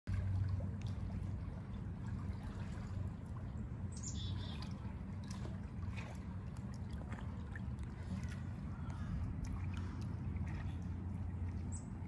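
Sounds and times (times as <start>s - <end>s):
low steady rumble: 0.1s - 12.0s
water lapping and trickling: 0.1s - 12.0s.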